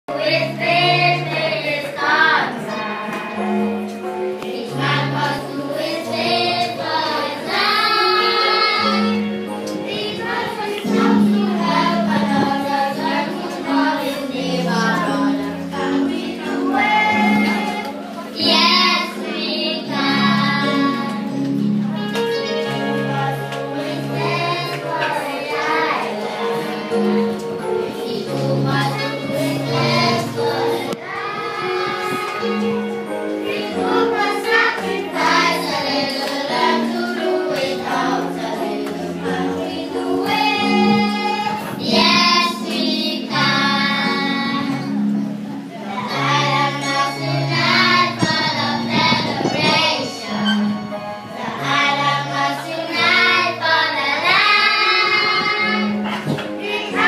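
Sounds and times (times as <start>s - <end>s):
accompanying chords: 0.1s - 57.0s
children singing in unison: 0.1s - 57.0s.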